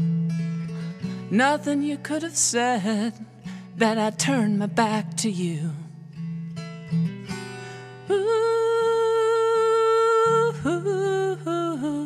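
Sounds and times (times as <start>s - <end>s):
acoustic guitar: 0.0s - 12.0s
woman singing: 0.9s - 6.0s, 7.3s - 12.0s.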